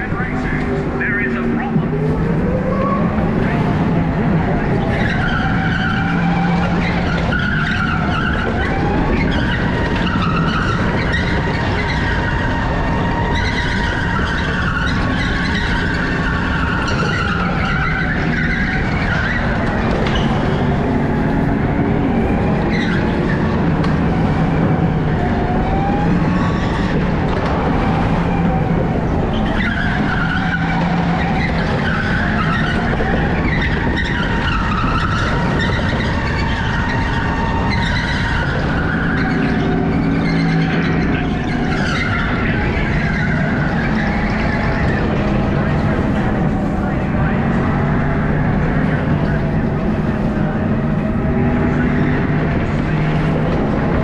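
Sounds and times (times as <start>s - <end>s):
electric go-kart motor hum: 0.0s - 54.0s
tyres squealing and skidding: 0.0s - 54.0s.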